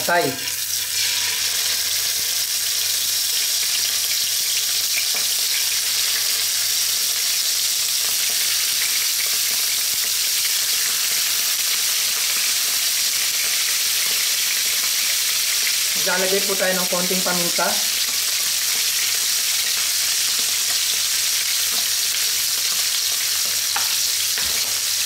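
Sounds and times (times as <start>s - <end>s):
liver sizzling in oil: 0.0s - 25.0s.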